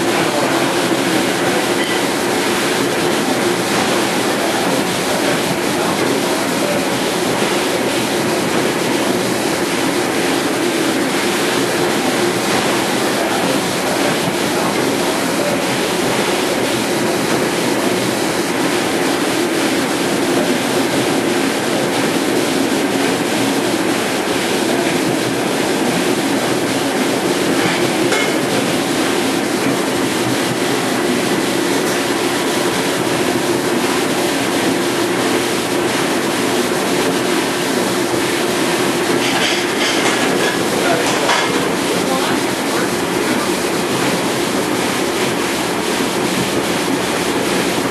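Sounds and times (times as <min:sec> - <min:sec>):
dishwasher pump roar: 0:00.0 - 0:47.9
water rushing and spraying: 0:00.0 - 0:47.9.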